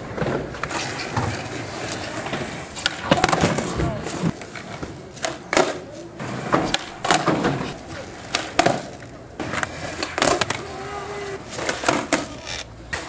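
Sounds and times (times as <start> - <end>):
skateboard wheels rumbling: 0.0 - 13.0
skateboard pops and clacks: 0.1 - 10.6, 11.5 - 13.0.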